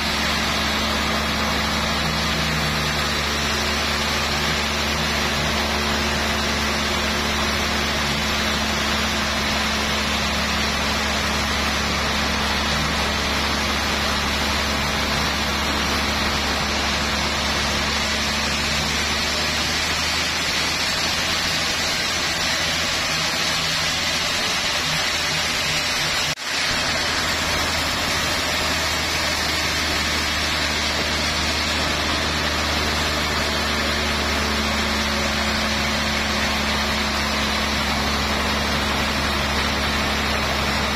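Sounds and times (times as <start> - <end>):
band saw cutting log: 0.0 - 40.9.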